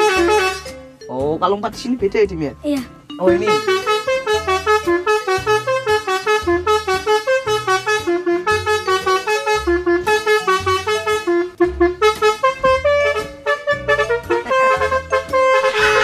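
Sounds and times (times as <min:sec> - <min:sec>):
multi-trumpet air horn tune: 0:00.0 - 0:00.7, 0:03.4 - 0:16.0.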